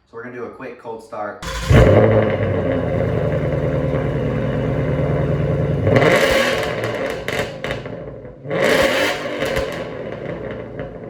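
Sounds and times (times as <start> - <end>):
car engine idling and revving: 1.4 - 11.0.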